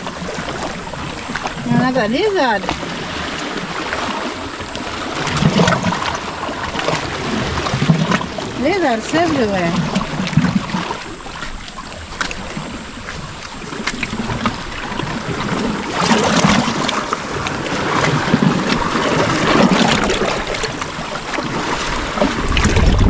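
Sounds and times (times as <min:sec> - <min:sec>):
waves on rocky shore: 0:00.0 - 0:23.0
wind buffeting microphone: 0:00.0 - 0:23.0.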